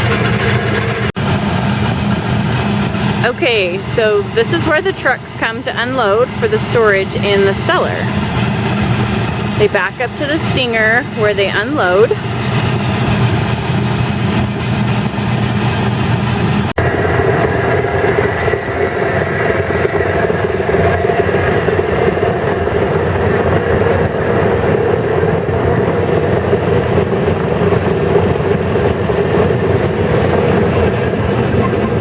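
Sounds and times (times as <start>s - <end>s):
conveyor belts droning: 0.0s - 32.0s
truck engine hum: 0.0s - 32.0s.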